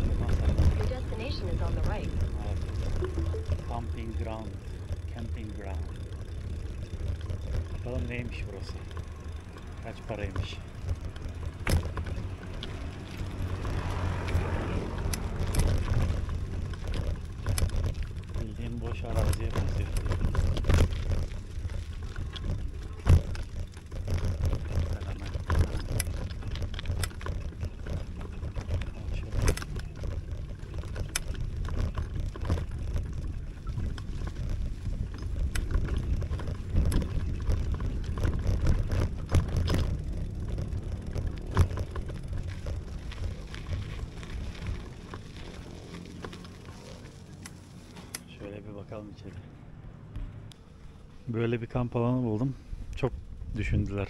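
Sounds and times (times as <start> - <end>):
wind rumbling on microphone: 0.0 - 48.0, 52.5 - 54.0
bicycle knocks and rattles: 0.0 - 48.4.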